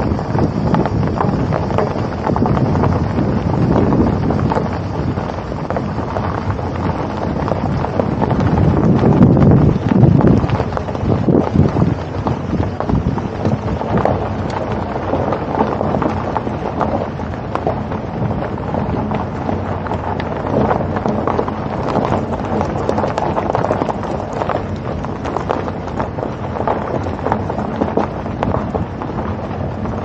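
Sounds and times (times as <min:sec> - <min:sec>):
low vehicle rumble: 0:00.0 - 0:30.0
wind buffeting microphone: 0:00.0 - 0:30.0.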